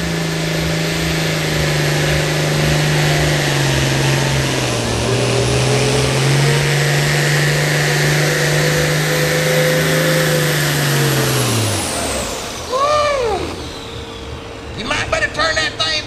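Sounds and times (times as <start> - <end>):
high turbo whistle: 0.0 - 15.6
diesel engine under load: 0.0 - 16.0.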